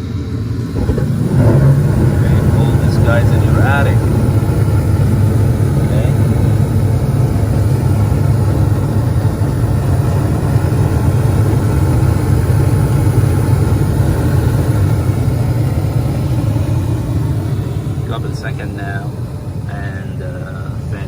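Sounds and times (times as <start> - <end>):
gas furnace humming: 0.0 - 21.0.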